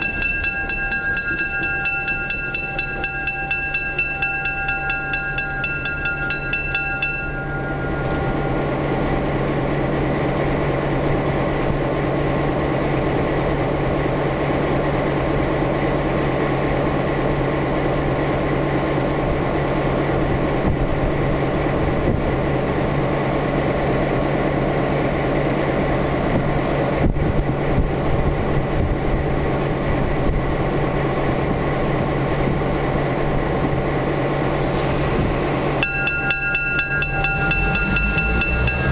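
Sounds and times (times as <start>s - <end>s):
diesel locomotive idling: 0.0s - 38.9s.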